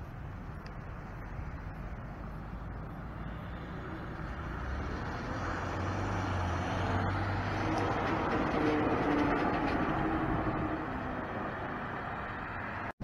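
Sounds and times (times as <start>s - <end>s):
truck diesel engine and tyres: 0.0s - 13.0s.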